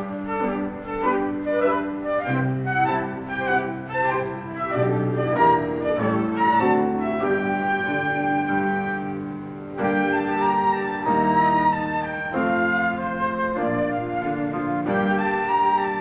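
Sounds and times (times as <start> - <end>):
flute melody: 0.0 - 16.0
piano accompaniment: 0.0 - 16.0.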